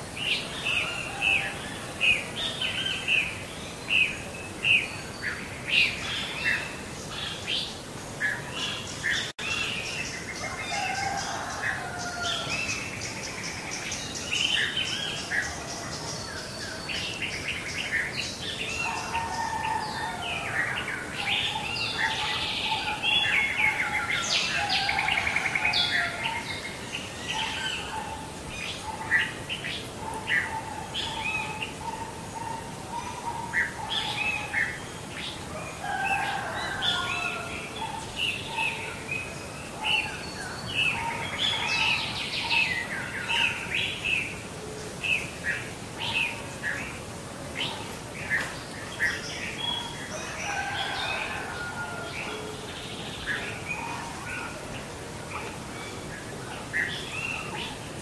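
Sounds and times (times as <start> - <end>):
songbirds singing: 0.0 - 58.0.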